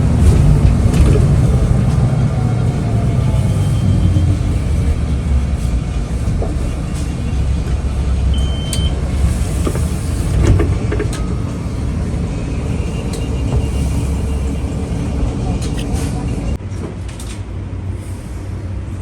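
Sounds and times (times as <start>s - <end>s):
vehicle interior rumble: 0.0s - 19.0s.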